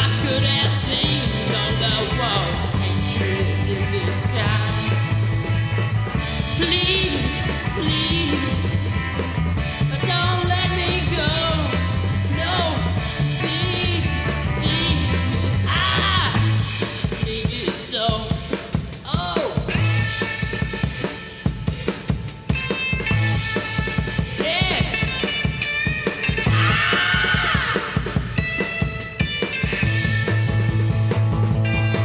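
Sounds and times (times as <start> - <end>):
rock and roll band recording: 0.0 - 32.0.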